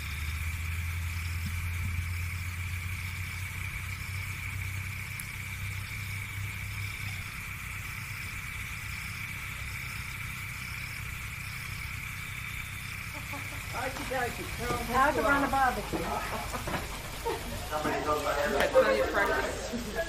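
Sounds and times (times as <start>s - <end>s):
engine idling: 0.0s - 20.0s
high-pitched whine: 0.0s - 20.0s.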